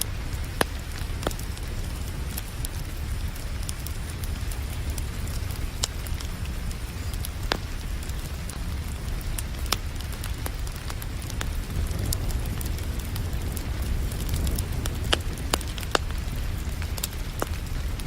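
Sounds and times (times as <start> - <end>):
rain hissing: 0.0 - 18.0
wood fire crackling and popping: 0.0 - 18.0.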